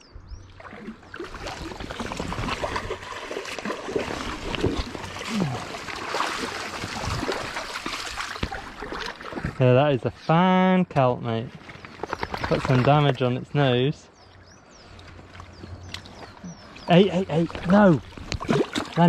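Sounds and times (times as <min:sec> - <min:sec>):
water splashing and sloshing: 0:00.3 - 0:10.0, 0:11.0 - 0:13.8, 0:14.7 - 0:19.0.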